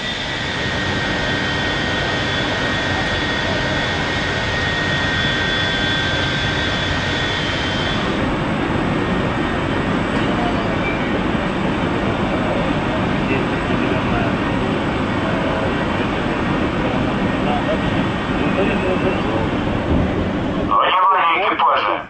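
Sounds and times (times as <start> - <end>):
machinery roar: 0.0 - 22.0.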